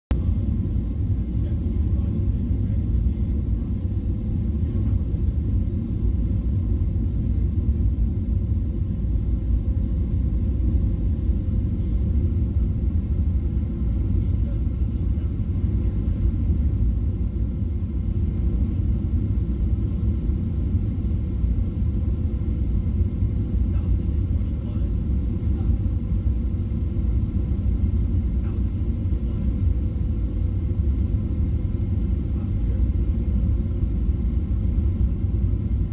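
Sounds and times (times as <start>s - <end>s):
airliner cabin rumble: 0.1s - 35.9s.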